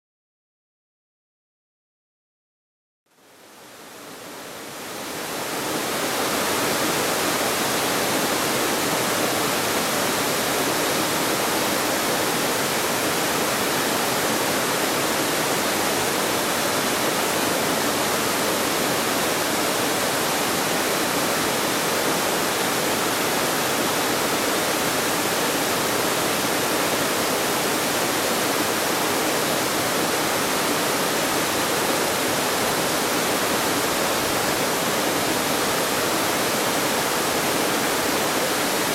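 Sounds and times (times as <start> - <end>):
waterfall rushing: 4.0 - 38.9.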